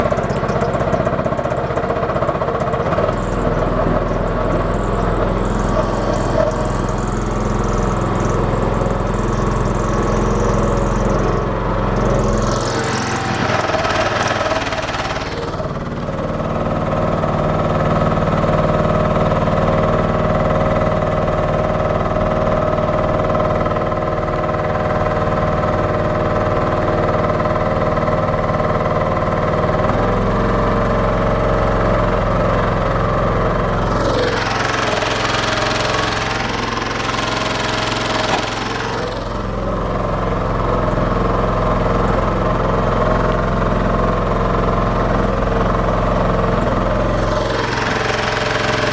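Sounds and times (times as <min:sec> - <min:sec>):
boat motor running: 0:00.0 - 0:48.9.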